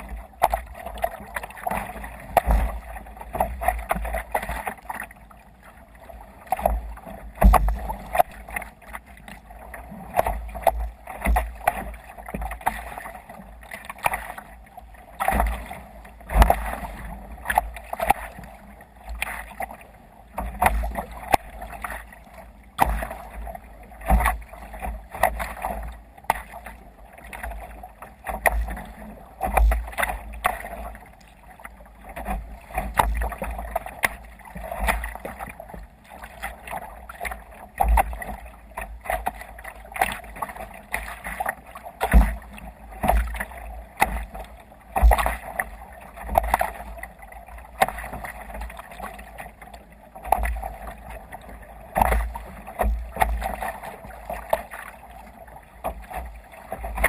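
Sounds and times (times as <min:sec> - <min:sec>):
water splashing against kayak hull: 0:00.0 - 0:57.0.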